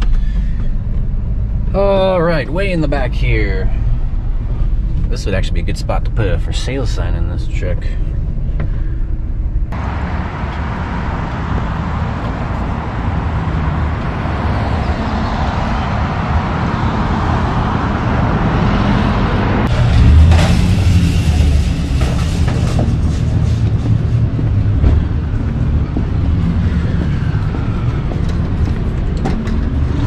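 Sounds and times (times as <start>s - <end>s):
motor vehicle rumble: 0.0s - 30.0s
road noise: 0.0s - 30.0s.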